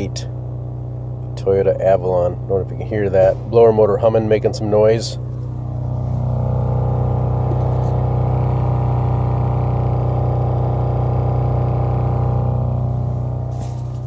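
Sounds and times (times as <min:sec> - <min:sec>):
blower motor humming: 0:00.0 - 0:14.0.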